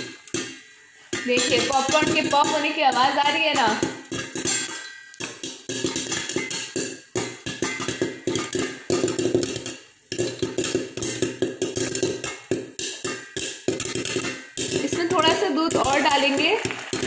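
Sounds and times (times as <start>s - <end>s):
popcorn popping in a pot: 0.0s - 17.0s.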